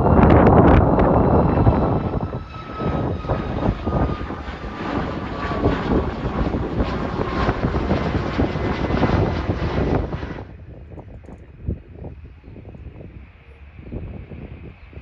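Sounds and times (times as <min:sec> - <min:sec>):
jet engines running with whine: 0:00.0 - 0:15.0.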